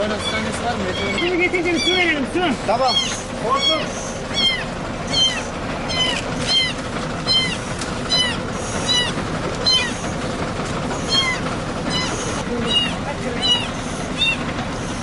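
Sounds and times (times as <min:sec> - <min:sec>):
kitten mewing: 0:00.9 - 0:02.1, 0:02.8 - 0:10.2, 0:11.0 - 0:15.0.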